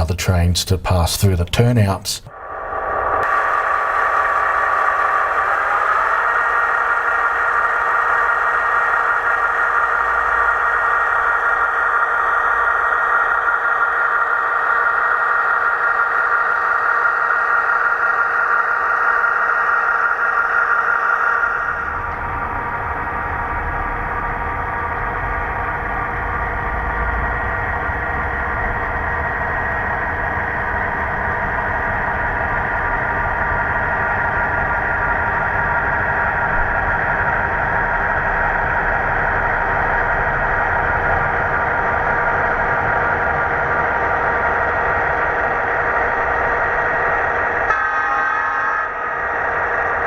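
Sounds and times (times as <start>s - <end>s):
model locomotive diesel engine: 0.0s - 50.0s.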